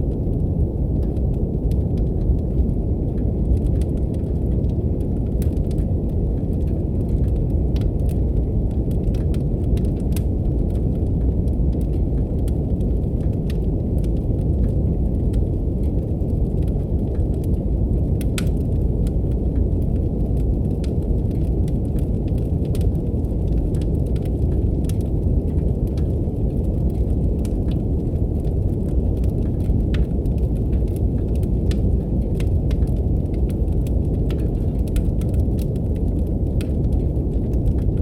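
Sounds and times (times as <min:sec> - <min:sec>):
brown noise hiss: 0:00.0 - 0:38.0
wood fire crackling: 0:00.0 - 0:38.0.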